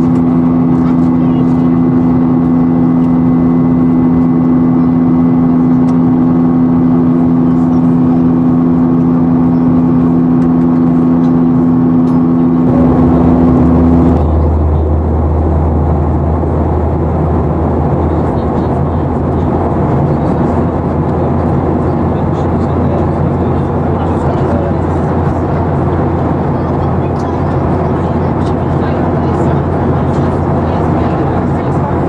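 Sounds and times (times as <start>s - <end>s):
airplane cabin noise: 0.0s - 32.0s
deeper engine rumble: 0.0s - 32.0s.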